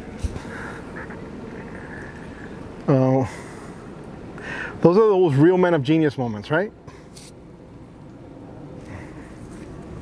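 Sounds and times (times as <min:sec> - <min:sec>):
vehicle engines rumbling: 0:00.0 - 0:10.0.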